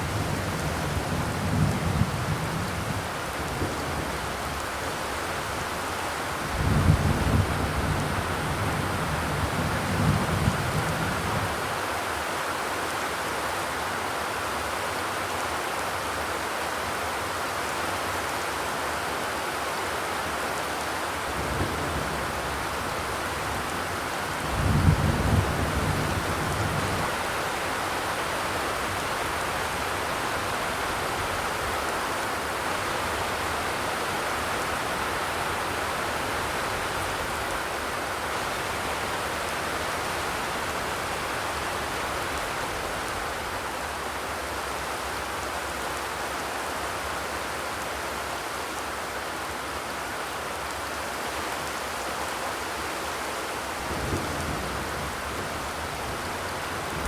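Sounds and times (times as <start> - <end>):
rain drumming on a metal roof: 0.0 - 57.0.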